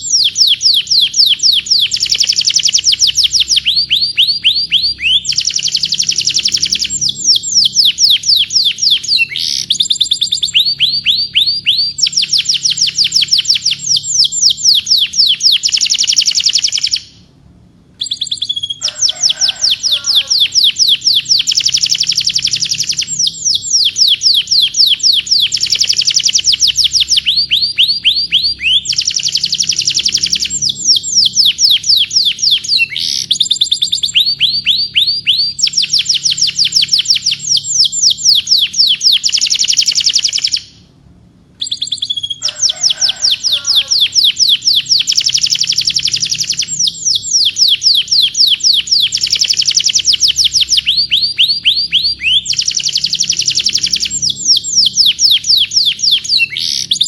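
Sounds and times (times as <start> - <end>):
canary singing trills: 0.0 - 17.4, 18.0 - 40.9, 41.6 - 57.0.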